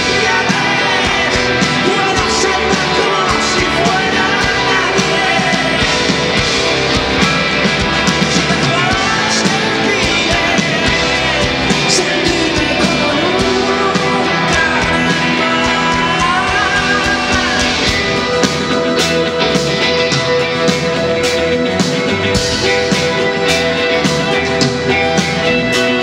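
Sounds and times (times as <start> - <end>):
person singing: 0.0 - 26.0
rock band playing: 0.0 - 26.0.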